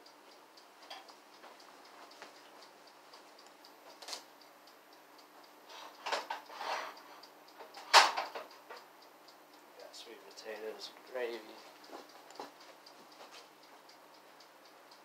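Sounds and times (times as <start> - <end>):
light ticking: 0.0 - 15.0.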